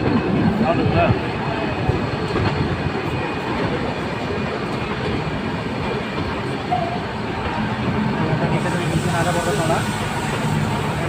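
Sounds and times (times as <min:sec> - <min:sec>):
train running on rails: 0:00.0 - 0:11.0.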